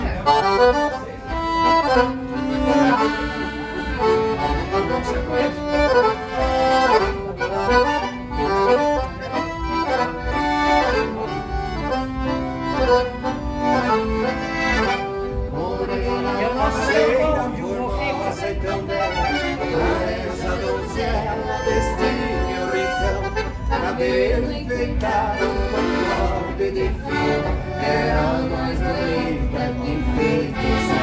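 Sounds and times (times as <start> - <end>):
accordion waltz music: 0.0 - 31.0.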